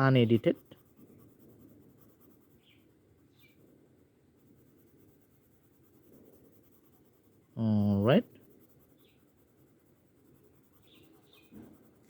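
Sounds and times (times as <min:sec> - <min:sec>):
pencil scratching on paper: 0:00.0 - 0:12.0.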